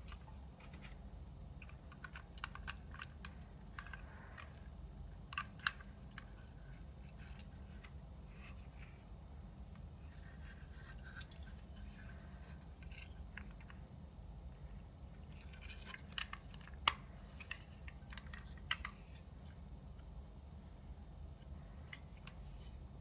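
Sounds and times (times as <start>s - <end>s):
small parts clicking and scraping: 0.0s - 20.2s
low steady hum: 0.0s - 23.0s.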